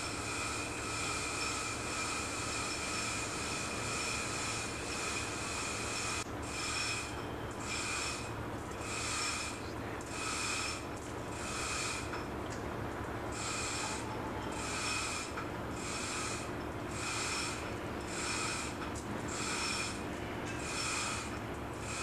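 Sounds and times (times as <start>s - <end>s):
hissing rasping strokes: 0.0s - 12.2s, 13.3s - 22.0s
low machinery hum: 0.0s - 22.0s.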